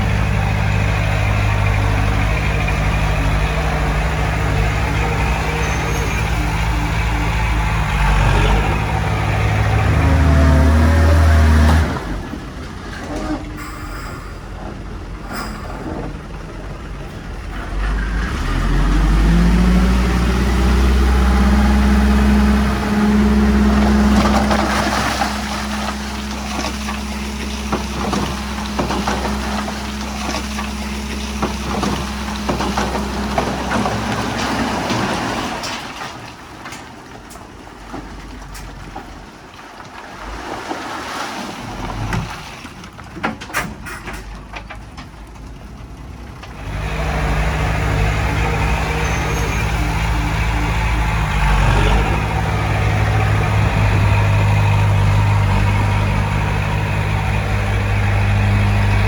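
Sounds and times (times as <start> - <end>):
heavy diesel engine revving: 0.0 - 35.7, 46.0 - 59.0.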